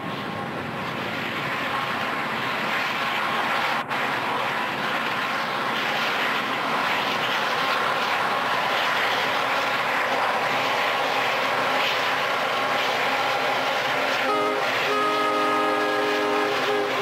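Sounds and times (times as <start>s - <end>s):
diesel locomotives hauling freight: 0.0s - 17.0s.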